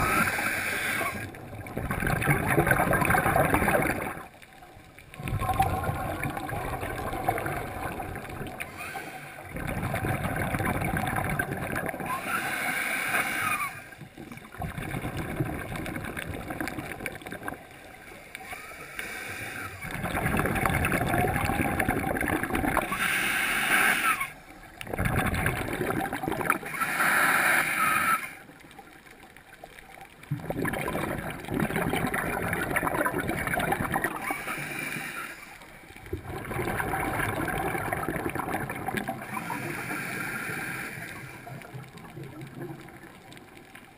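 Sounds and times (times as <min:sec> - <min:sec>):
scuba regulator bubbles gurgling: 0:00.0 - 0:43.9.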